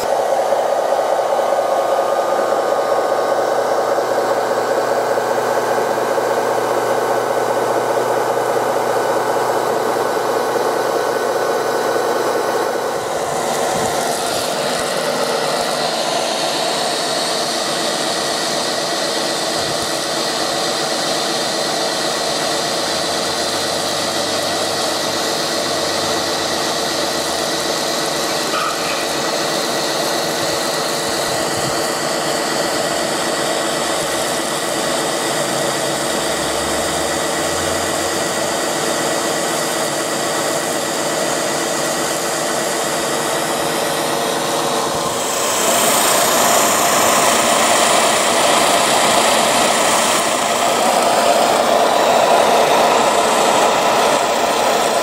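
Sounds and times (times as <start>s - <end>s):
electric water pump whining: 0.0s - 55.0s
hiss of foam jet: 0.0s - 55.0s.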